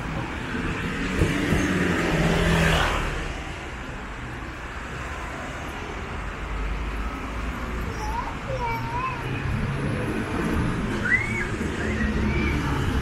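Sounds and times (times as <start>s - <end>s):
steady traffic hum: 0.0s - 13.0s.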